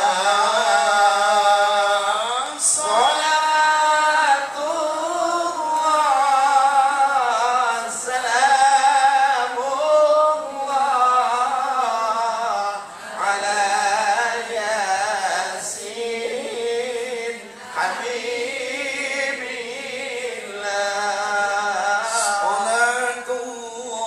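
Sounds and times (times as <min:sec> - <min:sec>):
man chanting recitation: 0:00.0 - 0:24.0.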